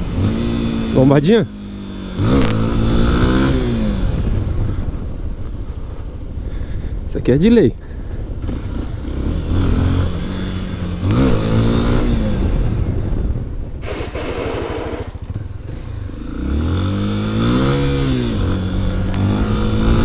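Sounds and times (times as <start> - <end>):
motorcycle engine revving: 0.0 - 5.2, 8.4 - 20.0.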